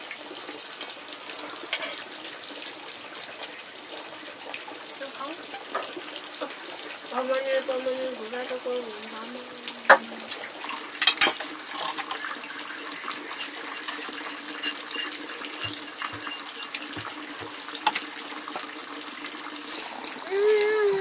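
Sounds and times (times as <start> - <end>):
water running: 0.0 - 21.0.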